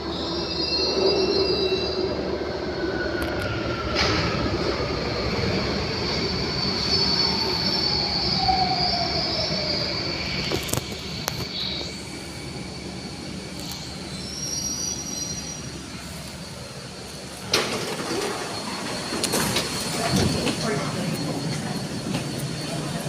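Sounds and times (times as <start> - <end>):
train rumble inside carriage: 0.0 - 23.0
wheel squeal whine: 0.0 - 23.0.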